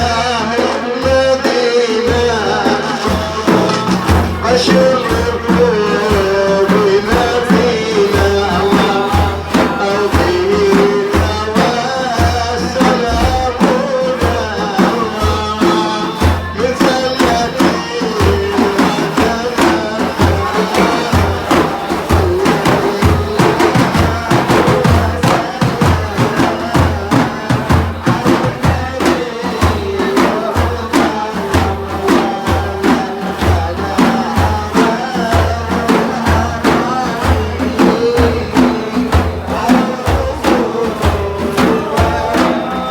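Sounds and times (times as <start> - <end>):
hand drums beating: 0.0 - 42.9.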